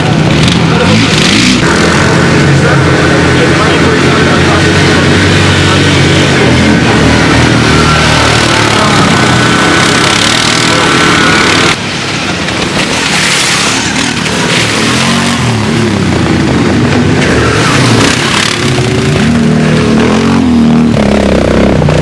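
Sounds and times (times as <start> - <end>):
quad bike engines revving: 0.0 - 22.0.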